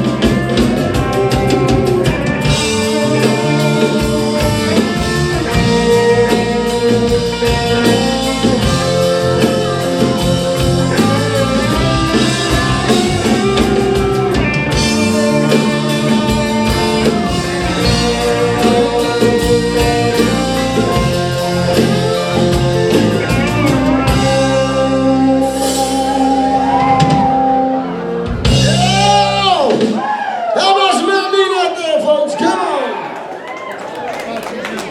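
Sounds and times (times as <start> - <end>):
drum kit: 0.0 - 30.5
rock band playing: 0.0 - 32.1.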